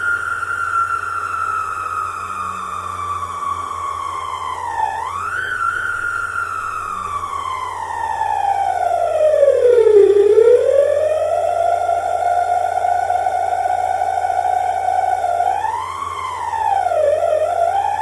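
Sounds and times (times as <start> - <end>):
electronic engine sound whine: 0.0 - 18.0.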